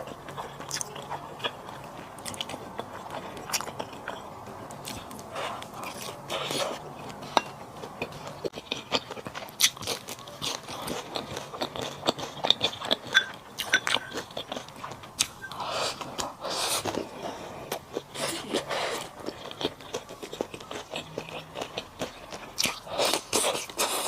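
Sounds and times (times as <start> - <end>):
person chewing and biting: 0.0 - 24.0.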